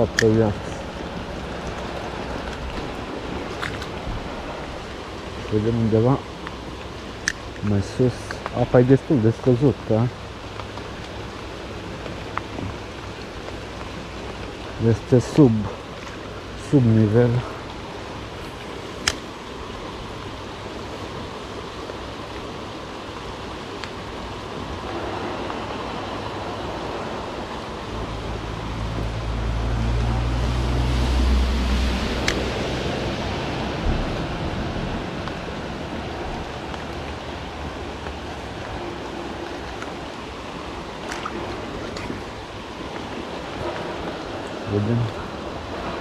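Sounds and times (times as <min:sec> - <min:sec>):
river running over stones: 0:00.0 - 0:46.0.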